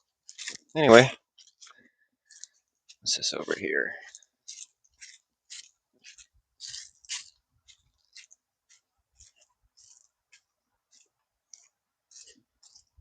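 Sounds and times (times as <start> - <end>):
footsteps crunching on dry ground: 2.3 - 13.0.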